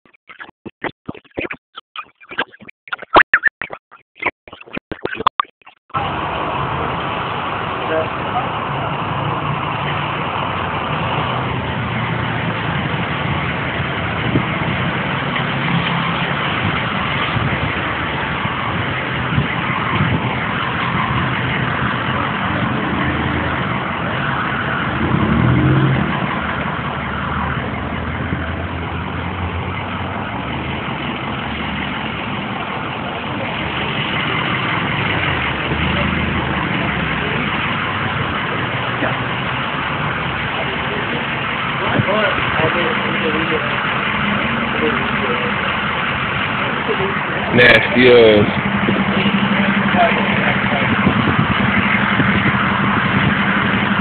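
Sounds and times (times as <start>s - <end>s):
vehicles rumbling nearby: 5.9s - 54.0s
engine revving: 6.0s - 54.0s.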